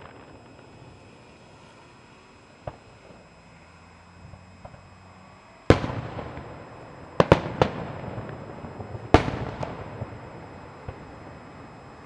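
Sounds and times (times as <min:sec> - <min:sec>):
fireworks shells bursting: 0:00.0 - 0:03.4, 0:05.7 - 0:12.0.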